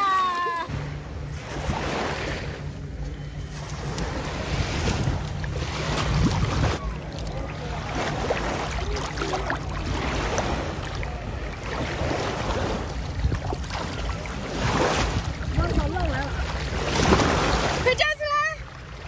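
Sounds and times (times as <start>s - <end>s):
small waves lapping on sand: 0.0s - 19.0s
wind rumbling on microphone: 0.7s - 18.0s.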